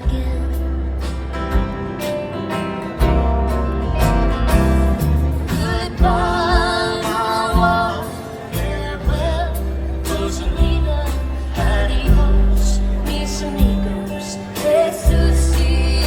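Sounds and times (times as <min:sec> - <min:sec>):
bass: 0:00.0 - 0:16.0
guitar: 0:00.0 - 0:16.0
live country band: 0:00.0 - 0:16.0.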